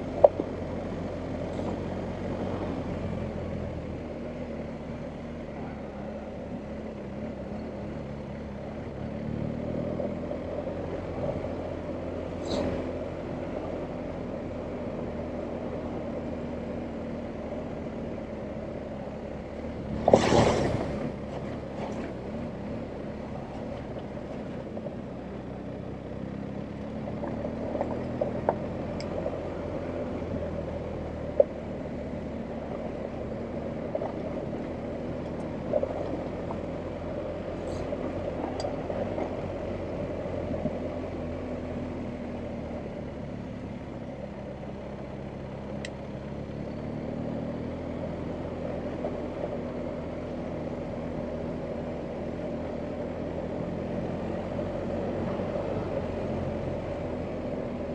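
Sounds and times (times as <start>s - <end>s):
motorcycle engine at low revs: 0.0s - 57.9s.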